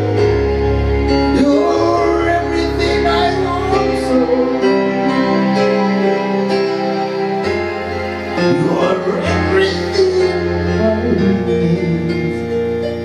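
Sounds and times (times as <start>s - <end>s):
bass line: 0.0s - 13.0s
electronic keyboard chords: 0.0s - 13.0s
person singing: 1.3s - 7.3s, 8.3s - 13.0s.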